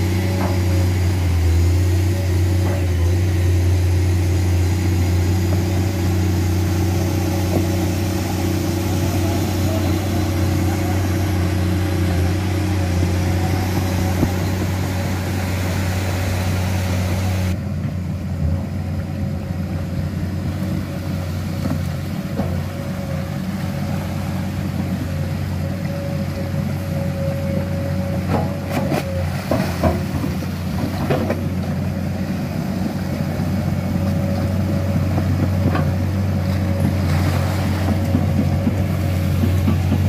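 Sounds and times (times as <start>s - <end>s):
excavator diesel engine droning: 0.0s - 40.0s.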